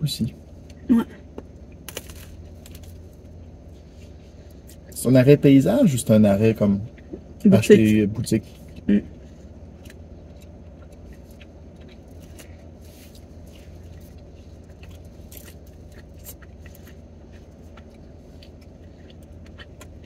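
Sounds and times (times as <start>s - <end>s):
people chewing pastries: 0.1s - 20.0s.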